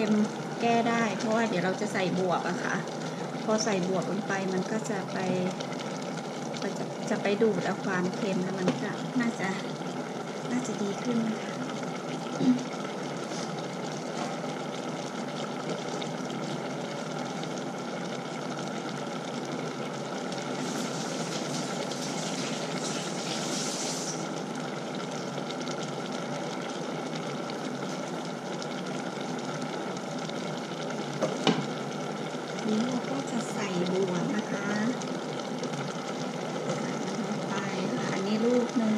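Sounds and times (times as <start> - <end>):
pot simmering with steady hiss: 0.0 - 38.9.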